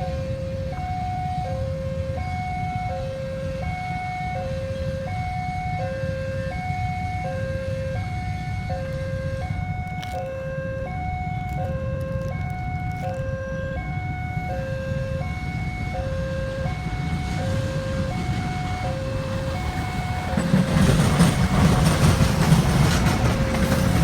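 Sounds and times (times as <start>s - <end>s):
two-tone level crossing alarm: 0.0s - 24.0s.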